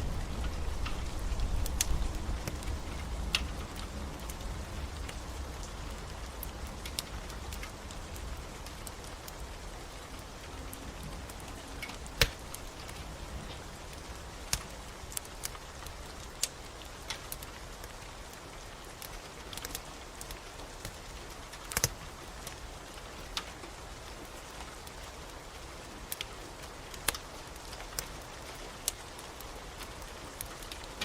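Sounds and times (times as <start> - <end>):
falling rain hiss: 0.0 - 31.0
wood fire crackling: 0.0 - 31.0.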